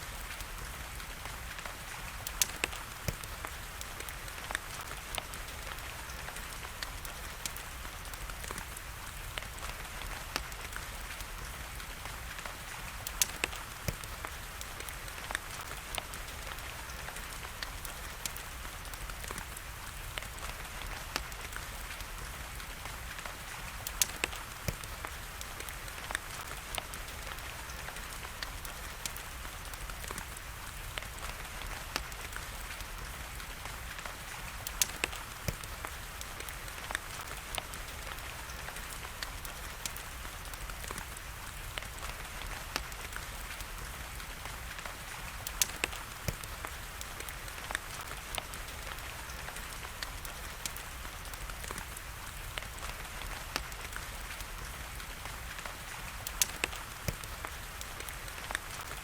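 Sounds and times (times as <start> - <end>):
steady rain hiss: 0.0 - 59.0
wood fire popping and crackling: 0.0 - 59.0.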